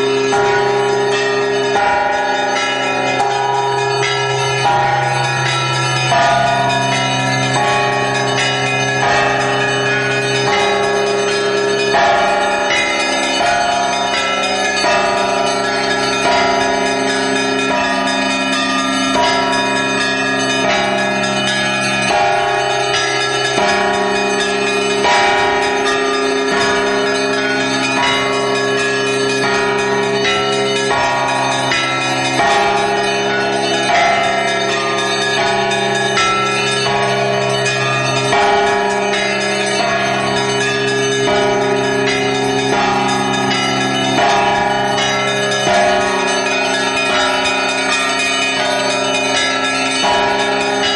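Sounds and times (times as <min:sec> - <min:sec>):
church bells pealing: 0:00.0 - 0:50.9.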